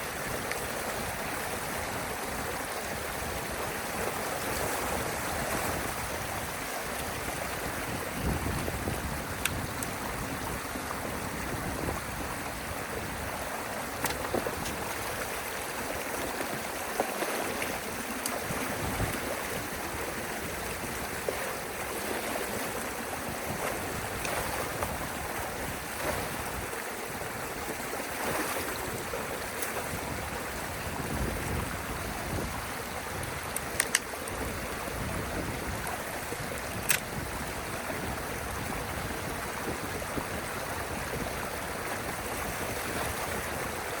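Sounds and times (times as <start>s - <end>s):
water rushing through channel: 0.0s - 44.0s.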